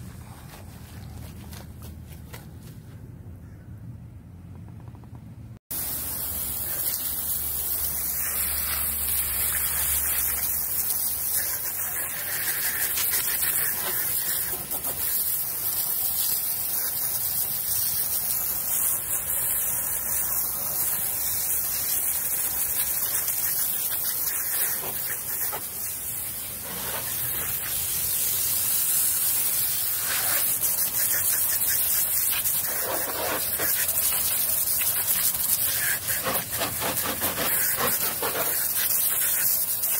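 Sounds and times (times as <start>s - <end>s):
water spraying from hose nozzle: 5.7s - 39.9s.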